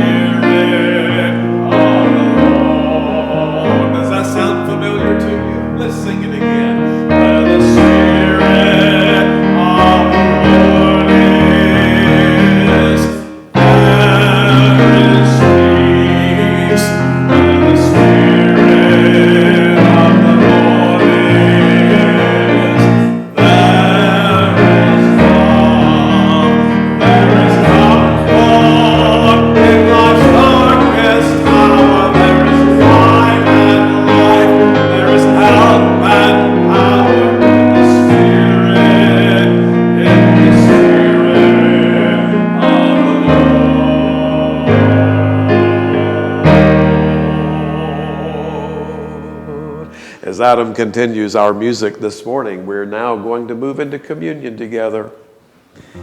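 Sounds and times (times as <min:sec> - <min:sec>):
piano music: 0:00.0 - 0:51.8.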